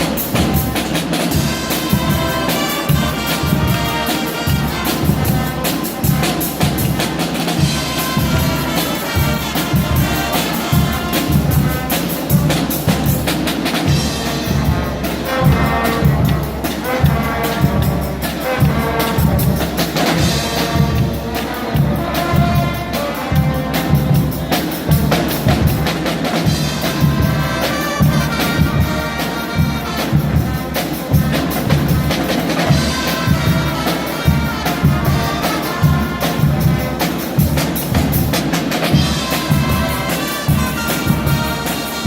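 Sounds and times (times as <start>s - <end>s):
drums and bass drum beat: 0.0s - 42.0s
loud brass band: 0.0s - 42.0s.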